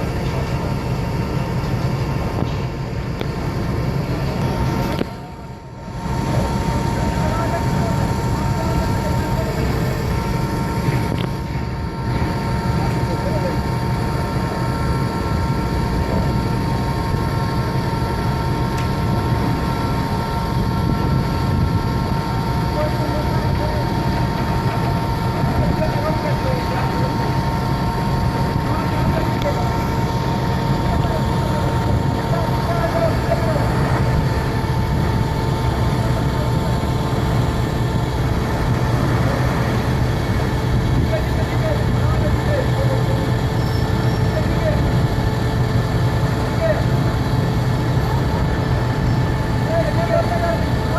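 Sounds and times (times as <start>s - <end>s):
diesel engine rumble: 0.0s - 50.9s
thin steady whine: 0.0s - 50.9s.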